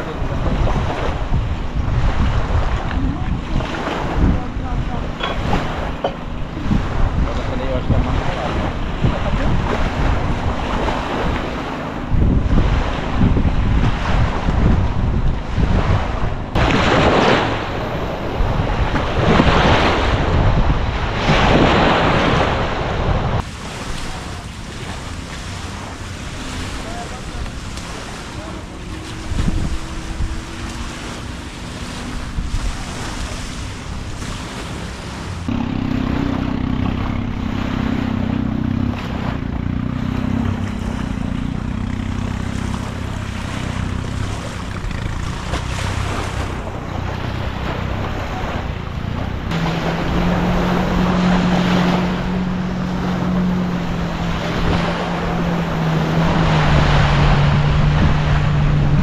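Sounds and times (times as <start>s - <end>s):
motorboat engine: 0.0s - 59.0s
water rushing: 0.0s - 59.0s
wind on microphone: 0.0s - 59.0s.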